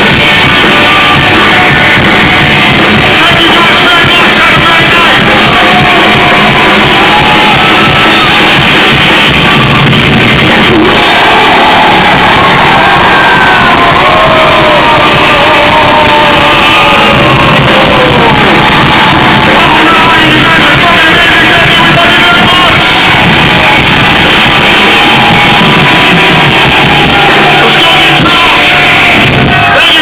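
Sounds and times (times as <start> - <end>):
live rock band playing: 0.0 - 30.0
person singing and shouting: 0.0 - 30.0.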